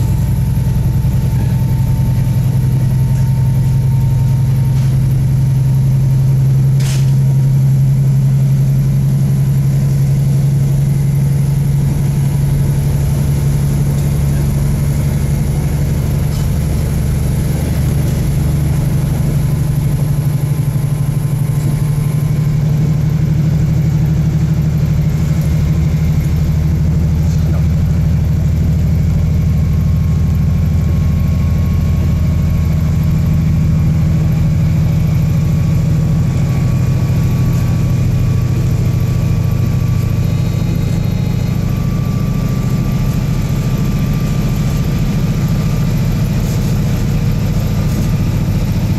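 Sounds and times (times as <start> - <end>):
diesel engine drone: 0.0 - 48.9.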